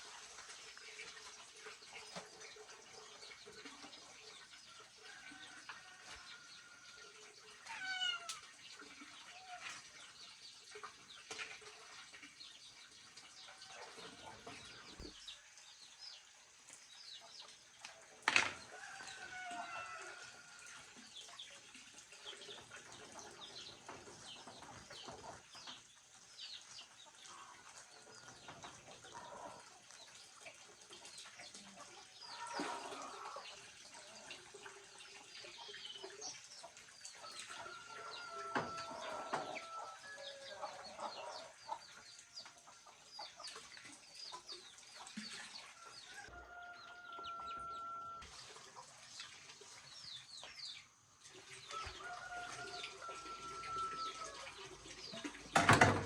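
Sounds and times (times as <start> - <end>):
small birds chirping: 0.0 - 19.9, 20.6 - 53.4
chickens clucking: 0.0 - 56.0.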